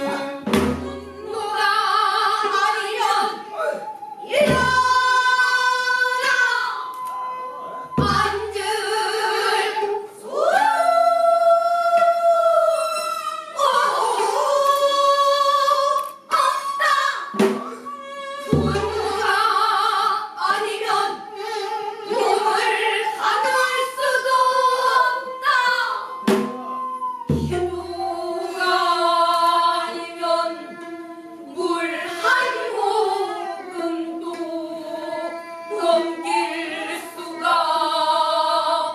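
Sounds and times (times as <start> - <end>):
group singing sustained lines: 0.0 - 38.9.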